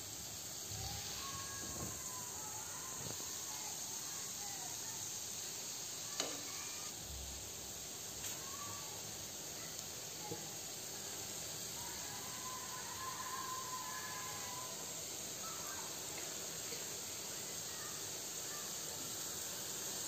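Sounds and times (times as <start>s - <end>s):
dough frying in hot oil: 0.0s - 20.0s.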